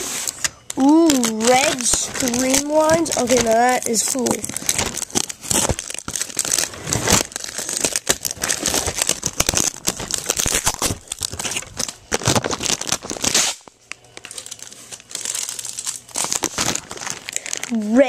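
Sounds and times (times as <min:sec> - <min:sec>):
plastic packaging crinkling and tearing: 0:00.0 - 0:18.0.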